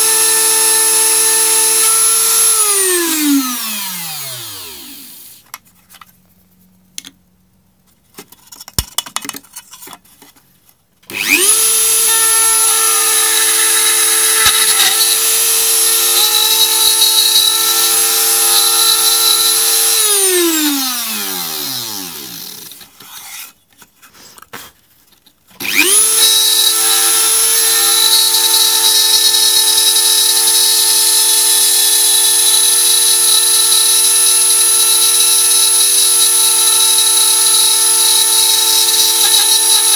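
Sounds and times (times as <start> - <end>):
rotary tool whining: 0.0 - 5.4, 11.1 - 23.5, 25.6 - 39.9.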